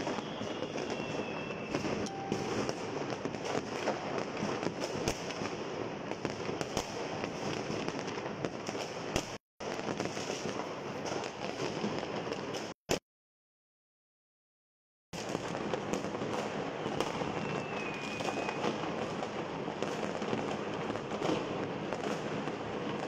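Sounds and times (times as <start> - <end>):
sharp firework bangs: 0.0 - 12.8, 15.2 - 23.0
fireworks popping and crackling: 0.0 - 13.0, 15.2 - 23.0.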